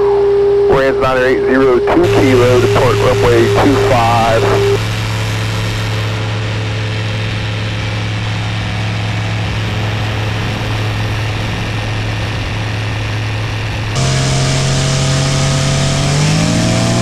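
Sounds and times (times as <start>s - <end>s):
light aircraft engine and propeller: 0.0s - 17.0s.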